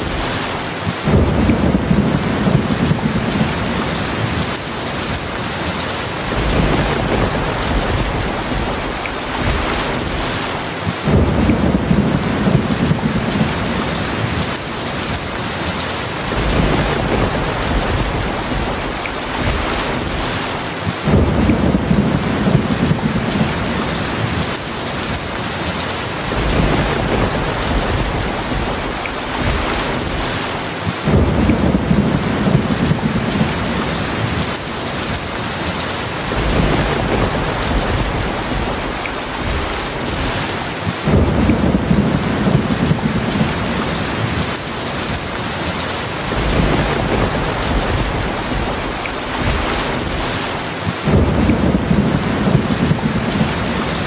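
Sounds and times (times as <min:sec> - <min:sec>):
low rolling thunder: 0:00.0 - 0:25.2, 0:26.1 - 0:35.2, 0:36.0 - 0:45.3, 0:46.2 - 0:54.0
heavy rain falling: 0:00.0 - 0:54.0.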